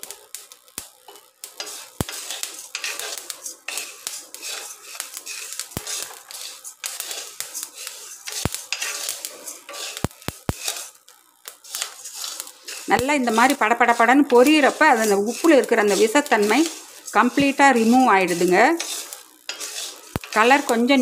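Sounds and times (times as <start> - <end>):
salt crackling: 0.0 - 21.0
salt scraping in a pan: 0.0 - 21.0.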